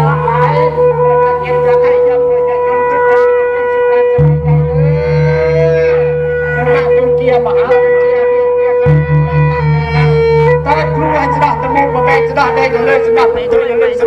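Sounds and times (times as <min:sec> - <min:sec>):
held drone: 0:00.0 - 0:14.0
low pulsing beat: 0:00.0 - 0:14.0
plucked string instrument: 0:00.0 - 0:14.0.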